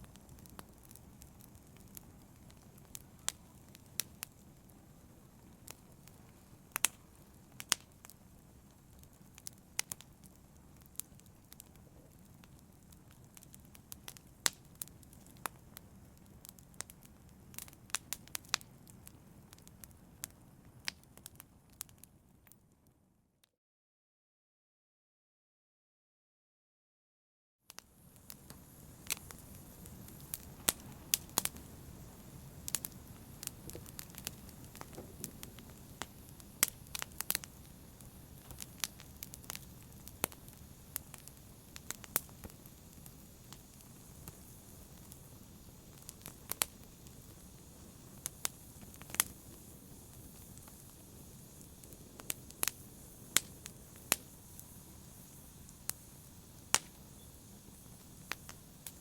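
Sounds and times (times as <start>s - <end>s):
wood fire pops and snaps: 0.0s - 4.8s, 5.5s - 22.6s, 27.7s - 59.0s
low rumble and hiss of flames: 0.0s - 22.9s, 27.8s - 59.0s.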